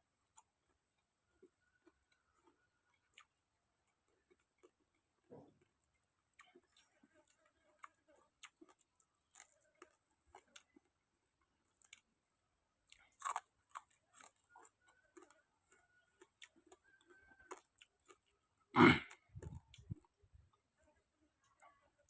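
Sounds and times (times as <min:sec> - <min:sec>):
person chewing with crunches: 0:00.3 - 0:12.1, 0:12.8 - 0:20.6.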